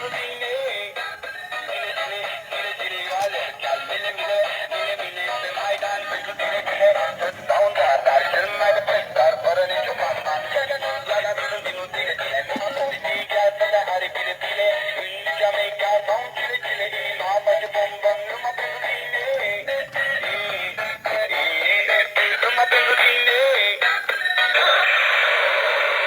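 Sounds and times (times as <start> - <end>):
music with synthetic singing voice: 0.0 - 26.0.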